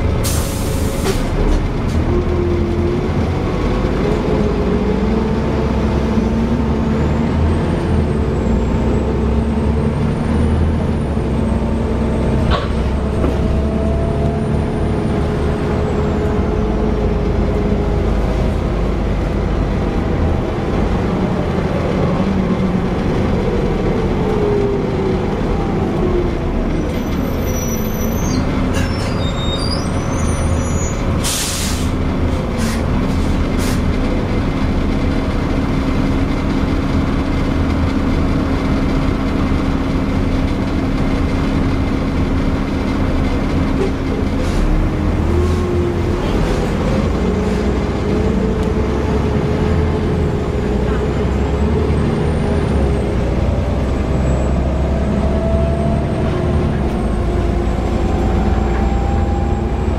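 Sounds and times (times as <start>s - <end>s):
diesel bus engine: 0.0s - 59.9s.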